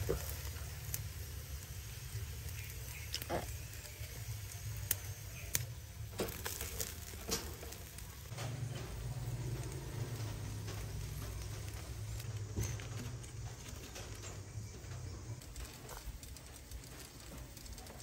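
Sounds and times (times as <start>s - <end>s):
food crackling on charcoal grill: 0.0s - 18.0s.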